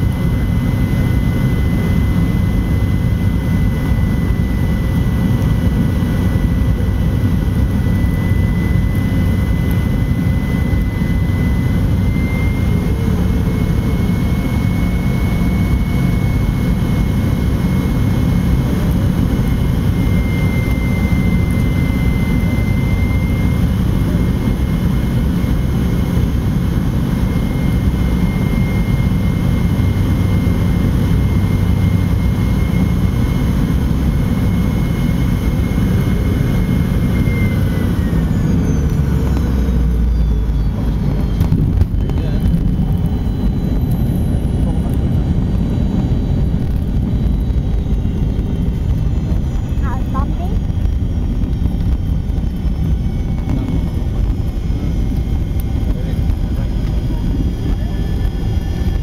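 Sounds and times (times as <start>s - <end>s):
jet engine cabin rumble: 0.0s - 59.0s
thin high engine whine: 0.0s - 59.0s.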